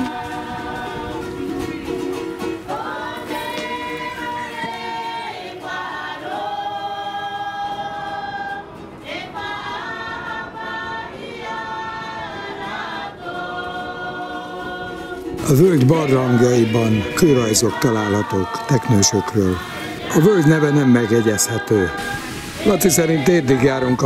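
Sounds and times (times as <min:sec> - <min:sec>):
voices singing in harmony: 0:00.0 - 0:24.0.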